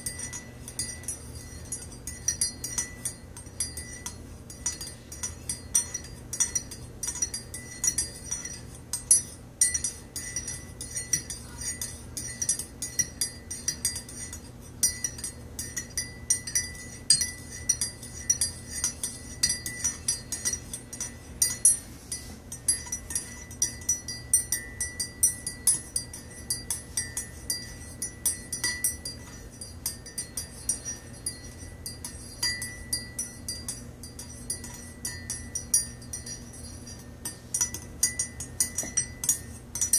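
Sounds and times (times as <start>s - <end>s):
teaspoon clinking in ceramic mug: 0.0s - 39.9s.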